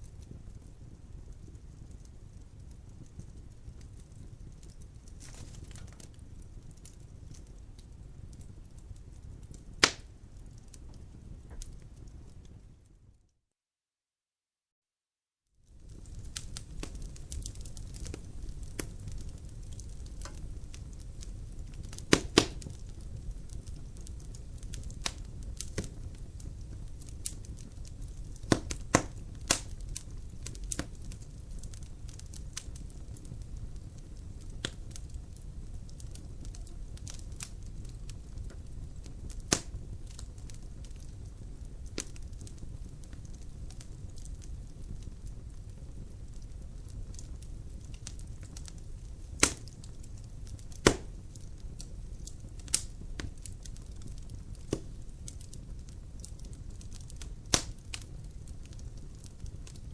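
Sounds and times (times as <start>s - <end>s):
fire crackling in fireplace: 0.0s - 13.3s, 15.6s - 59.9s.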